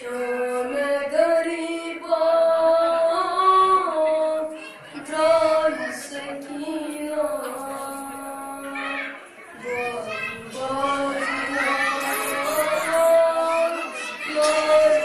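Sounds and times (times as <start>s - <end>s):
boy chanting a lament: 0.0s - 15.0s.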